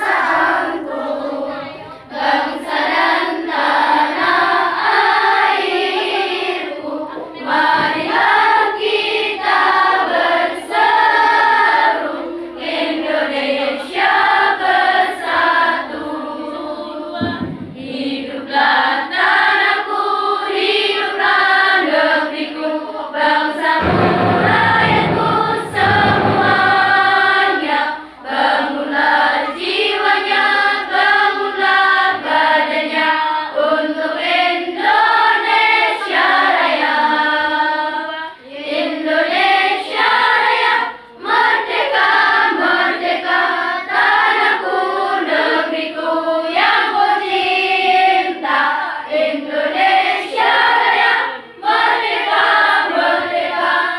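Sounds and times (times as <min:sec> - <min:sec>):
girls choir singing: 0:00.0 - 0:53.9.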